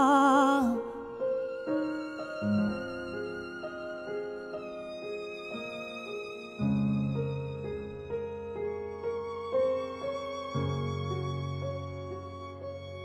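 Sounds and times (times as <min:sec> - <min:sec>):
solo violin melody: 0:00.0 - 0:13.0.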